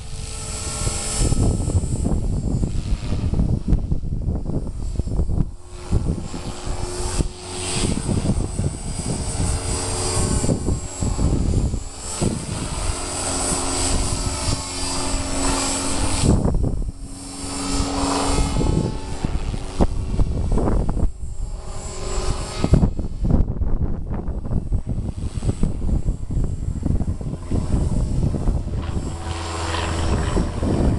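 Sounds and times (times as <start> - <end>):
rc helicopter motor whine: 0.0 - 30.9
wind buffeting microphone: 0.0 - 30.9.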